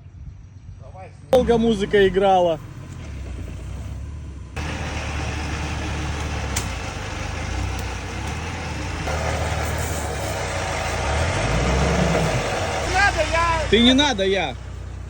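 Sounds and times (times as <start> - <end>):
off-road engine running: 0.2 - 15.0.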